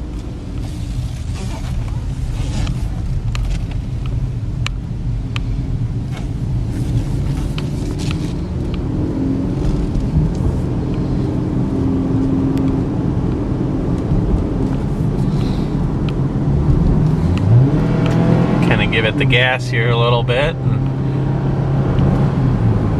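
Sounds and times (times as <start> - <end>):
car cabin road rumble: 0.0 - 22.9.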